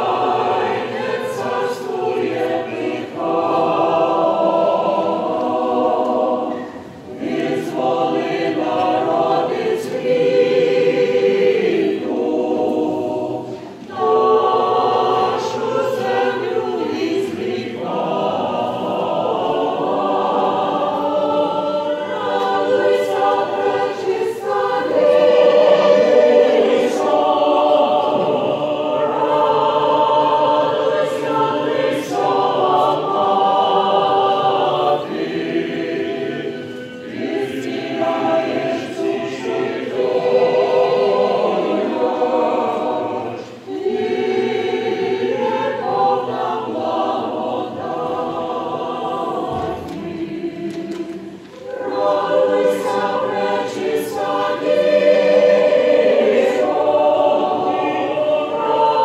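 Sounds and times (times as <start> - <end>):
mixed choir singing unaccompanied: 0.0 - 59.0.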